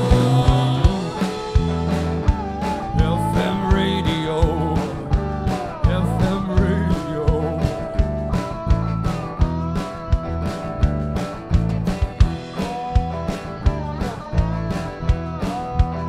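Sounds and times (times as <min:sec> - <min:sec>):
bass: 0:00.0 - 0:16.0
drum beat: 0:00.0 - 0:16.0
electric slide guitar lead: 0:00.0 - 0:16.0.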